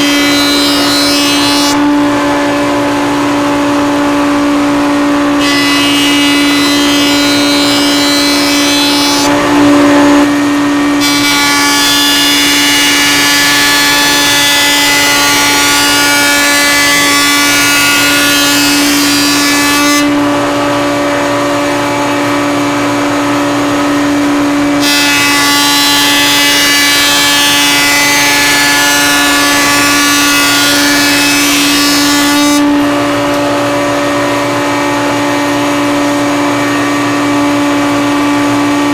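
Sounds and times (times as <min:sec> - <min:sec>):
router bit cutting wood: 0:00.0 - 0:38.9
router whining: 0:00.0 - 0:38.9.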